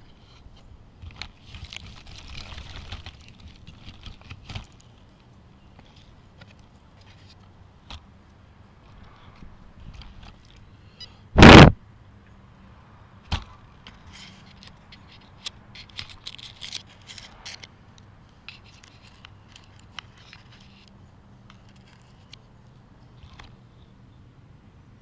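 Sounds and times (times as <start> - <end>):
light clicks and scrapes of handling: 0.0 - 11.2, 13.3 - 23.7.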